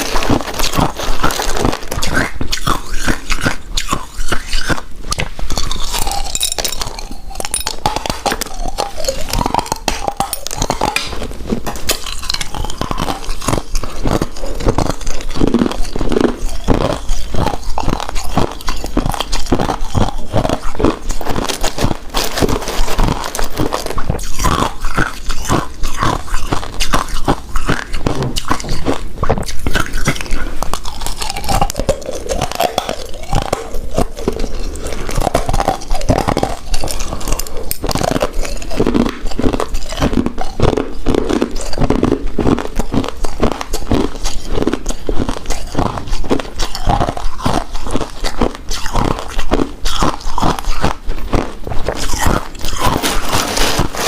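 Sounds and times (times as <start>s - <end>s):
chewing mouth sounds: 0.0s - 54.0s.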